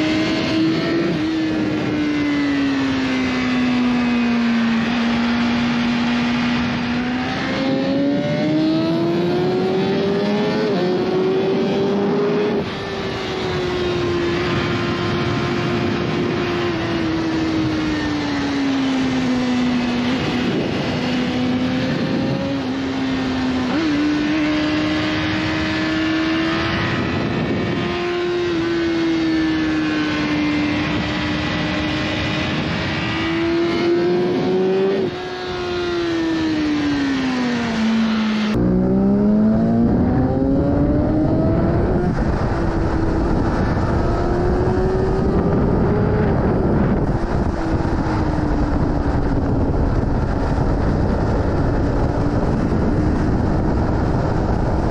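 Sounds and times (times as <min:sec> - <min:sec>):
motorcycle engine revving high: 0:00.0 - 0:54.9
wind noise: 0:00.0 - 0:54.9.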